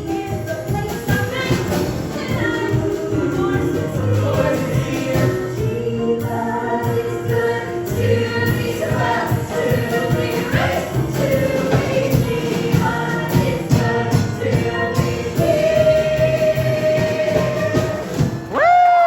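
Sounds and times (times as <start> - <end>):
voices singing: 0.0 - 18.6
live band playing: 0.0 - 19.0.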